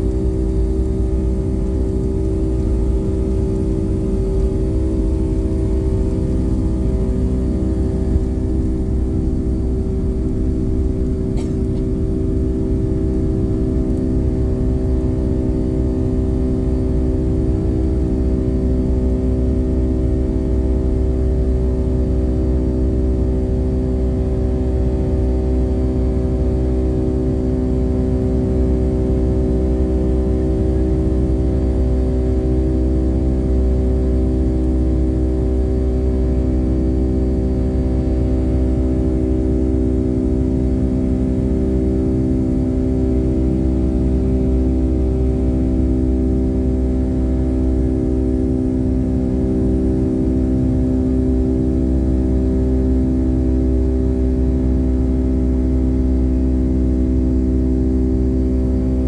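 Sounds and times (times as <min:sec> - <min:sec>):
jet engines droning in cabin: 0:00.0 - 0:59.0.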